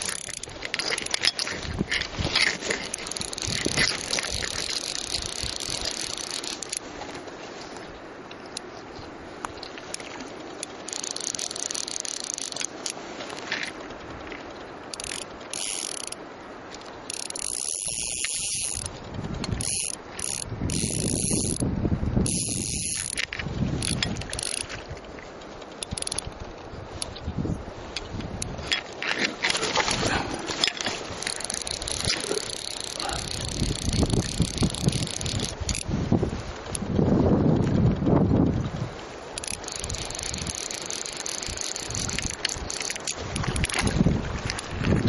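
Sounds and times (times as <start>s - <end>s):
fishing reel drag ratcheting: 0.0s - 8.7s, 9.6s - 27.2s, 27.9s - 45.0s.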